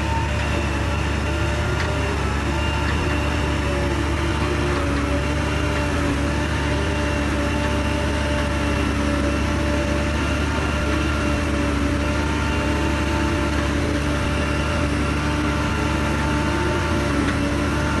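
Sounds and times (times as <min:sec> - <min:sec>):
diesel engine droning steadily: 0:00.0 - 0:18.0.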